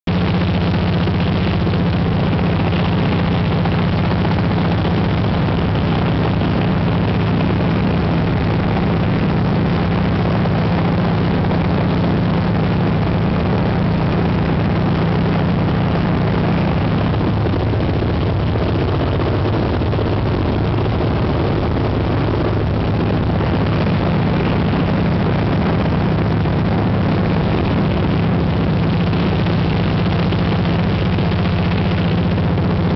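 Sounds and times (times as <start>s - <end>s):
propeller aircraft engine drone: 0.1s - 32.9s.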